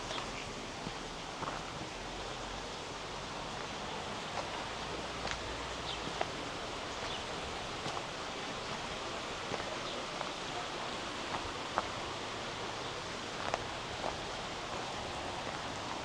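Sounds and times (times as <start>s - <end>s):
flowing stream water: 0.0s - 16.0s.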